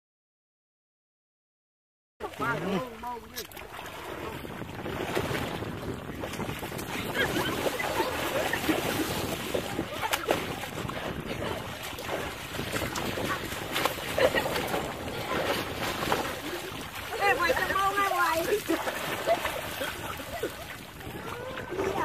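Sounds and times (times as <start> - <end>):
children splashing water: 2.2 - 22.0.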